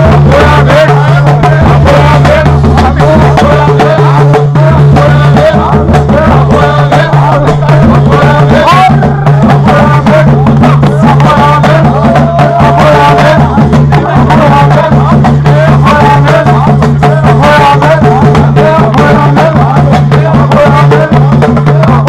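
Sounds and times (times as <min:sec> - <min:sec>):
drums: 0:00.0 - 0:22.0.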